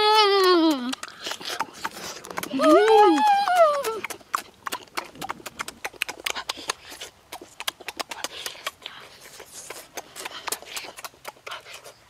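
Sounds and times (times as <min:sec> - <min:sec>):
open-mouthed chewing: 0:00.0 - 0:12.0
lip smacks: 0:00.2 - 0:12.0.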